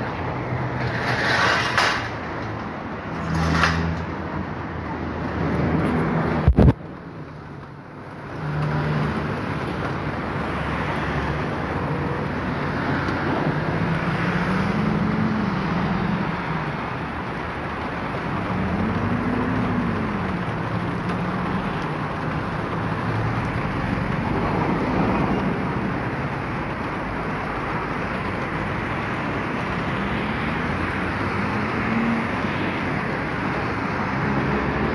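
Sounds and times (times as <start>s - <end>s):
cars driving on wet street: 0.0s - 34.9s
heavy rain on pavement: 0.0s - 34.9s.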